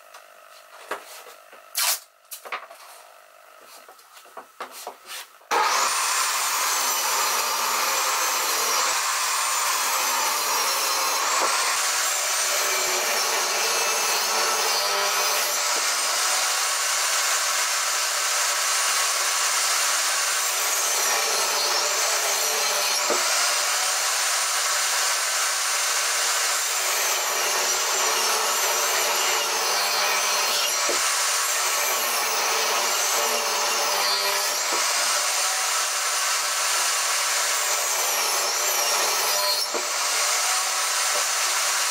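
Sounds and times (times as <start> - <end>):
table saw cutting wood: 3.6 - 41.9.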